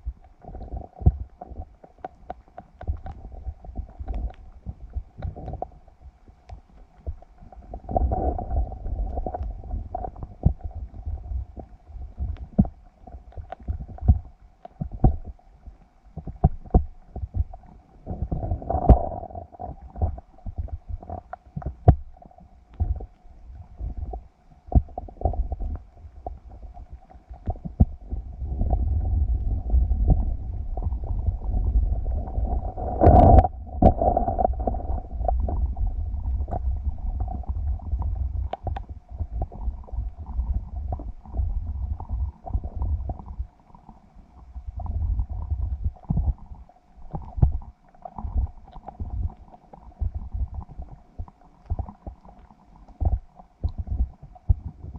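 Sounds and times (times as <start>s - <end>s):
faint hum: 0.0s - 54.9s
muffled underwater rumbling: 0.0s - 54.9s.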